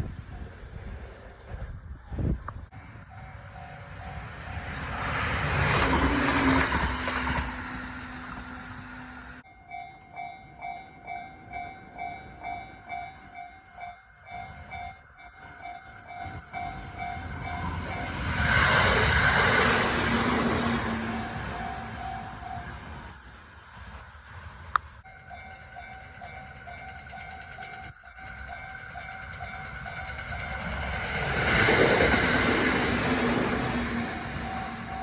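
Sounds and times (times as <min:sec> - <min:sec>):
train passing: 0:00.0 - 0:35.0
level-crossing warning bell ringing: 0:02.8 - 0:05.1, 0:06.7 - 0:23.0, 0:25.0 - 0:35.0.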